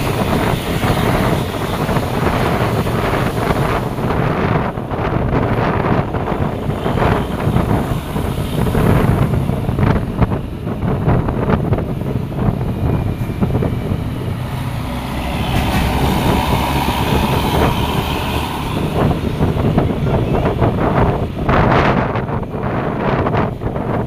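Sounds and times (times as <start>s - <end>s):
heavy vehicle engine driving past: 0.0s - 22.4s.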